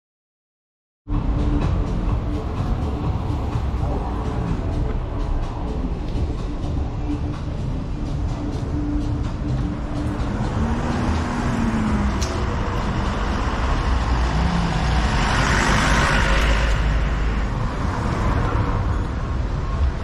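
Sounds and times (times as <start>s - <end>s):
car traffic on asphalt: 1.1s - 20.0s
truck passing close: 1.2s - 20.0s.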